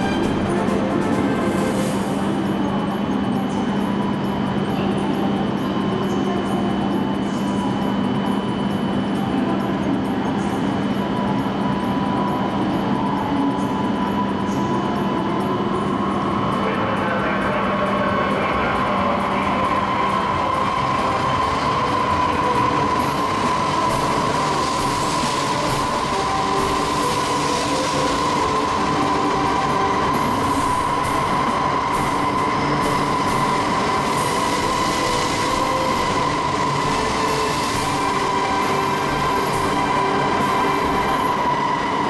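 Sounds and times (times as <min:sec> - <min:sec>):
train rolling past: 0:00.0 - 0:06.3, 0:11.8 - 0:42.0
high-pitched whine: 0:00.0 - 0:42.0.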